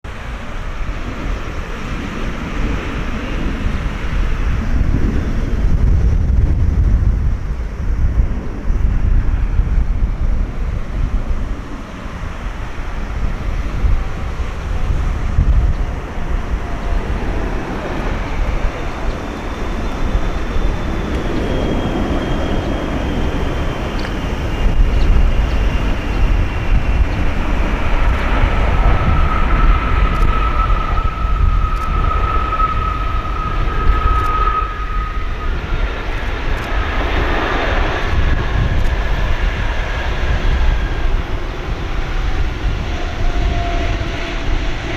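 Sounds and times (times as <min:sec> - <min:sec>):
wind rumble on microphone: 0:00.0 - 0:44.9
jet engines whining: 0:00.1 - 0:44.9.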